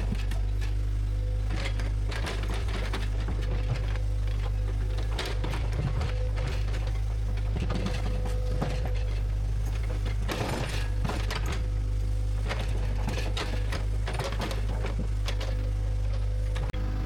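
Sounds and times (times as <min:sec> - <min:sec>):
bulldozer engine droning: 0:00.0 - 0:17.0.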